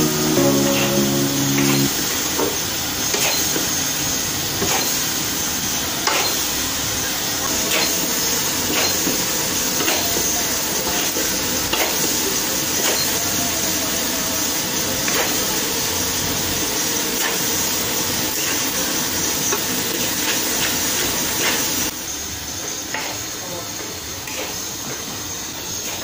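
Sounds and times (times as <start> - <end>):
rice sizzling in a wok: 0.0 - 26.0.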